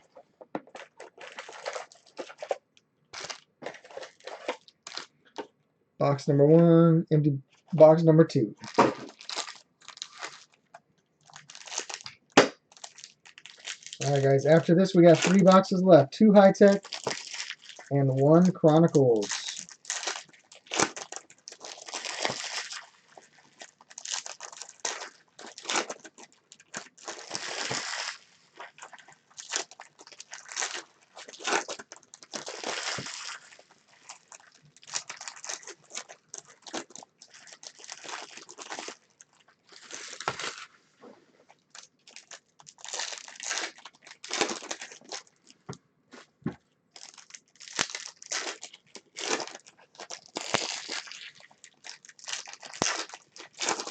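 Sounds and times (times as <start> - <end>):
wrappers crinkling and tearing: 0.0 - 5.5, 8.6 - 15.8, 16.4 - 40.8, 41.5 - 46.3, 46.9 - 53.9.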